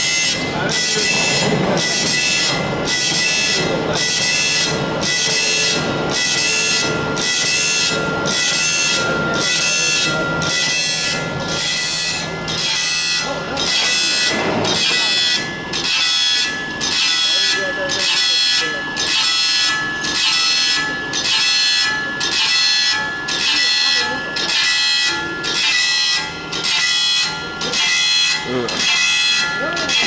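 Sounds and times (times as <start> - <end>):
grinding wheel rasping across saw teeth: 0.0 - 30.0
steady machine whine: 0.0 - 30.0.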